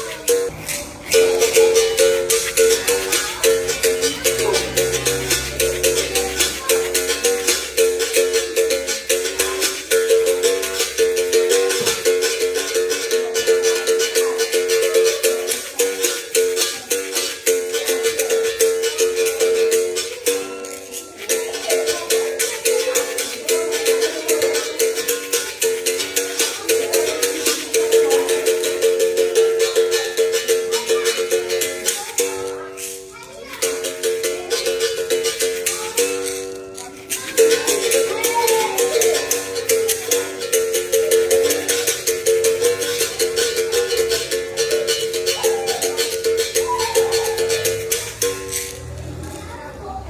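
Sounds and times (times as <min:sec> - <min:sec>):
berimbau played rhythmically: 0:00.0 - 0:50.0
shaker rattle: 0:00.0 - 0:50.0.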